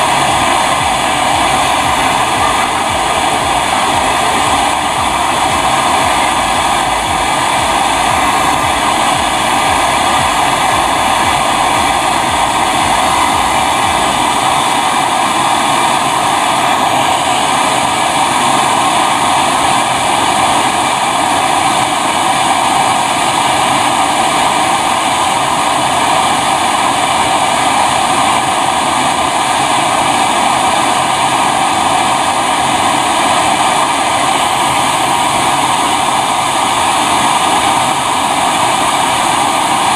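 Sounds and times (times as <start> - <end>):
torch flame rushing: 0.0 - 39.9.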